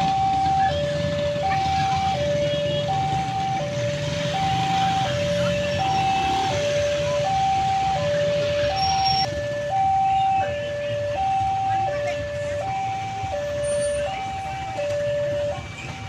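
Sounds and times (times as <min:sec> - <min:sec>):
level crossing two-tone alarm: 0:00.0 - 0:16.0
road traffic rumble: 0:00.0 - 0:16.0.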